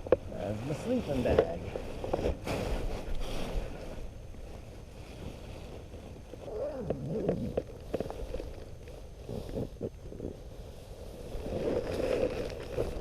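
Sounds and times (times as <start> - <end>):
sleeping bag fabric rustling: 0.0 - 13.0.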